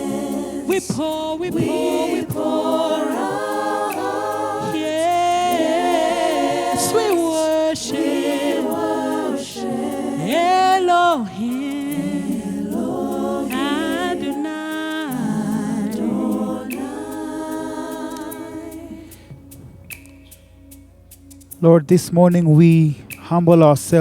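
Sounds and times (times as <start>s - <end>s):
unaccompanied worship singing: 0.0s - 20.2s.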